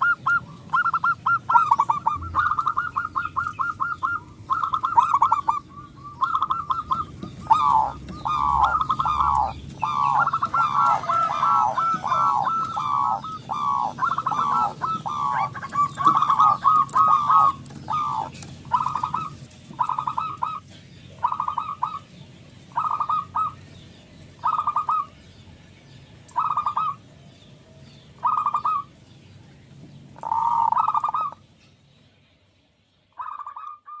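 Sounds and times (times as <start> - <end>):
dove cooing: 0.0 - 23.7, 24.4 - 25.2, 26.3 - 27.0, 28.2 - 28.9, 30.2 - 31.4, 33.2 - 34.0.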